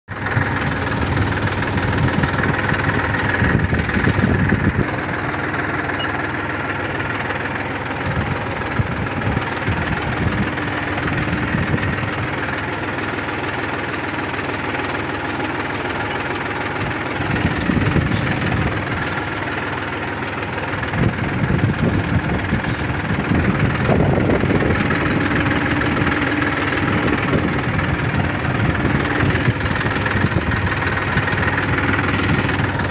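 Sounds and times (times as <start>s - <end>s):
tractor diesel engine under load: 0.1s - 32.9s.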